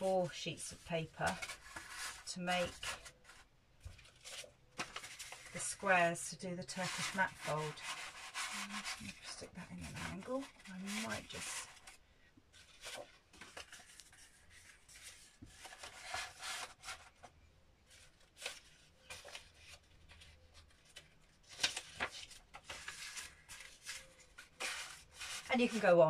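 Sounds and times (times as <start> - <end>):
paper rustling and scraping: 0.0 - 26.0.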